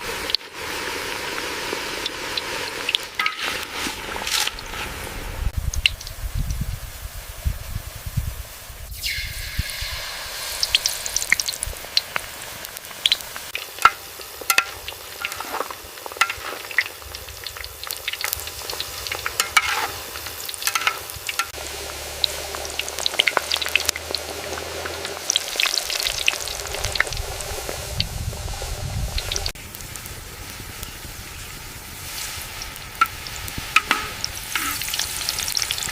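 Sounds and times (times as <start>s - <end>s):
deep-frying sizzle with pops: 0.0s - 35.9s.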